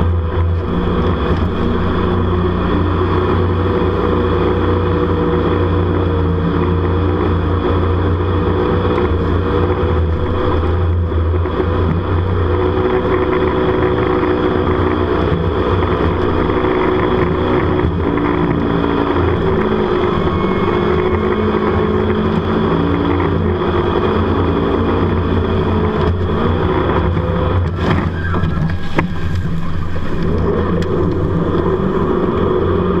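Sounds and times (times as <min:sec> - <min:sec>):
boat engine running hard: 0:00.0 - 0:33.0
water rushing: 0:00.0 - 0:33.0.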